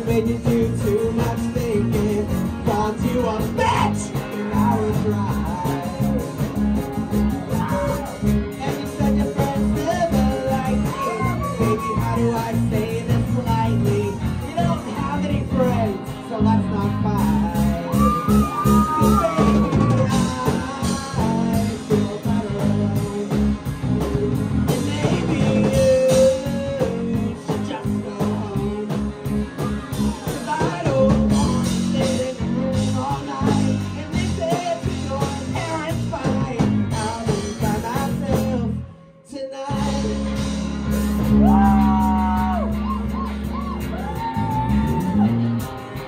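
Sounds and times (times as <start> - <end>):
person singing: 0.0 - 45.4
live rock band playing: 0.0 - 46.0.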